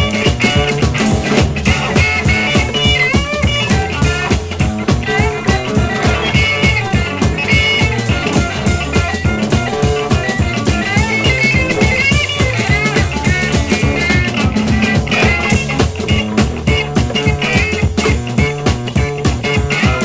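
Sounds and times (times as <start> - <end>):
chugging rhythm guitar: 0.0 - 20.0
slide lead guitar: 0.0 - 20.0
steady drum beat: 0.0 - 20.0.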